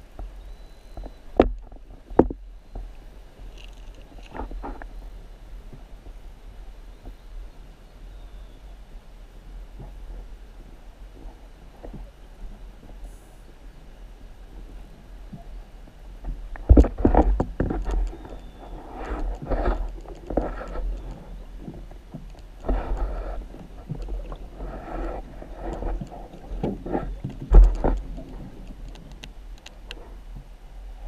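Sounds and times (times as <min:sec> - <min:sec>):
muffled underwater water rushes: 0:00.0 - 0:31.0.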